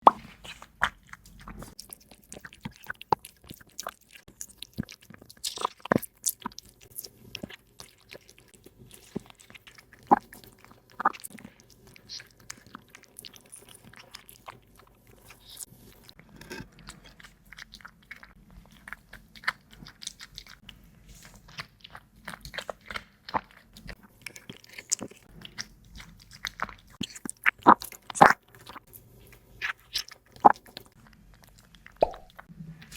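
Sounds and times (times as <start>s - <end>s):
cat crunching food: 0.2s - 32.9s.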